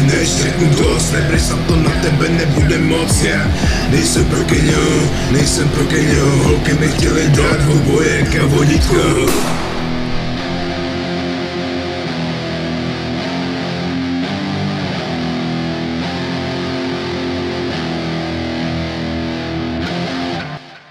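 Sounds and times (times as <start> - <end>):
distorted electric guitar chords: 0.0 - 20.9.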